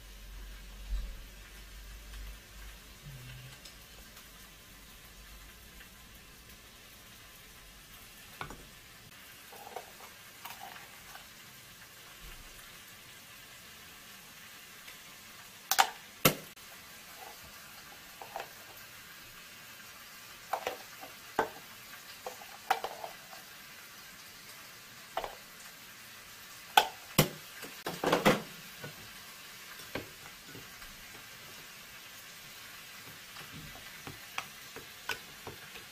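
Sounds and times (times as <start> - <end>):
faint steady hiss: 0.0 - 35.9.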